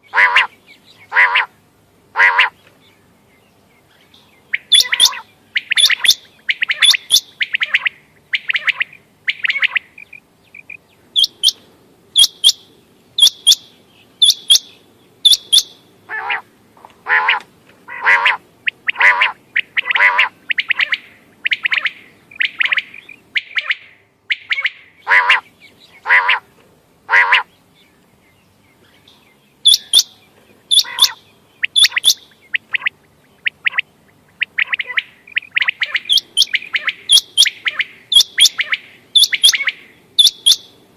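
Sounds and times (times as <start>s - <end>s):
quail calling: 0.1s - 1.6s, 2.2s - 2.6s, 4.5s - 11.6s, 13.2s - 26.5s, 27.1s - 27.5s, 29.6s - 40.8s.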